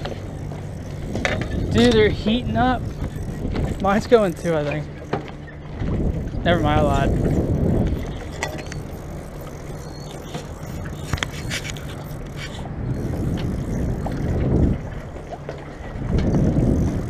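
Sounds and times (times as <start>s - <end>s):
choppy lake water: 0.0s - 17.0s
wind rumbling on microphone: 0.0s - 17.0s.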